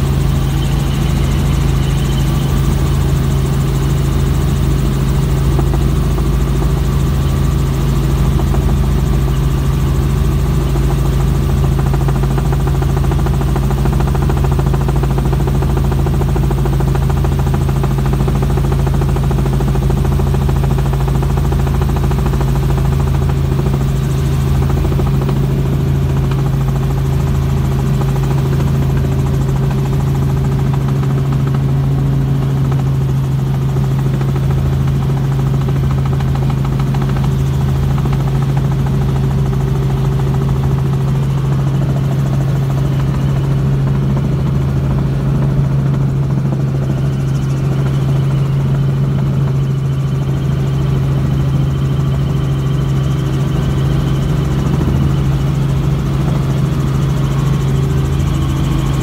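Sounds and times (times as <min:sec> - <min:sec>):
helicopter cabin drone: 0:00.0 - 0:59.0.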